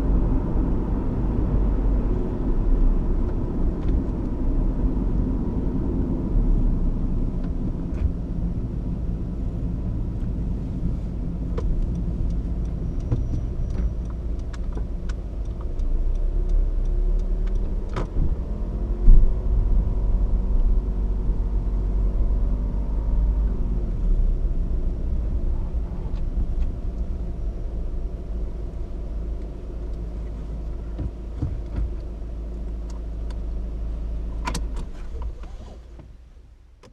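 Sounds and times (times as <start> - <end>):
tyres rumbling on road: 0.0 - 36.8.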